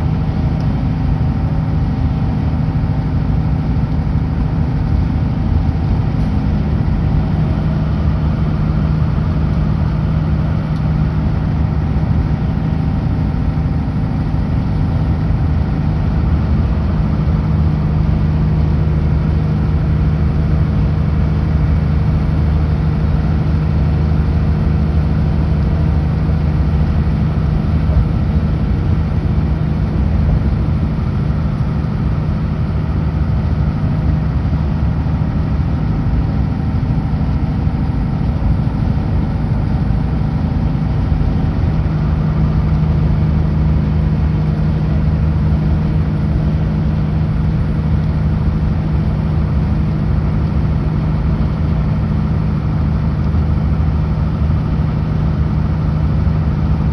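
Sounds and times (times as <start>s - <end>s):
truck diesel engine droning: 0.0s - 56.9s.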